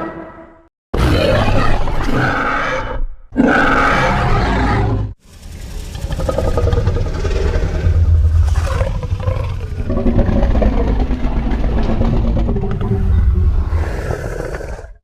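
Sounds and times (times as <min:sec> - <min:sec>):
low rumbling growl: 0:01.4 - 0:15.0.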